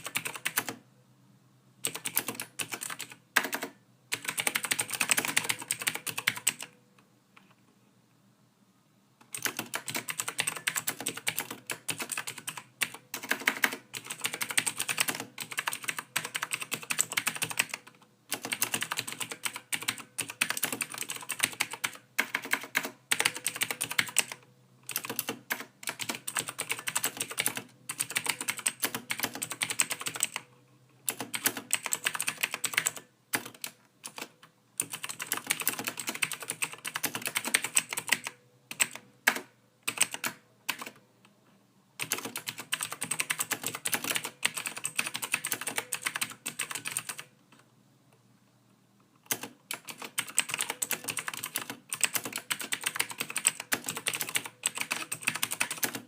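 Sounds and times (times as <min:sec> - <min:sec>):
computer keyboard typing: 0:00.0 - 0:00.8, 0:01.8 - 0:06.8, 0:09.2 - 0:30.5, 0:31.1 - 0:41.0, 0:42.0 - 0:47.3, 0:49.2 - 0:56.0.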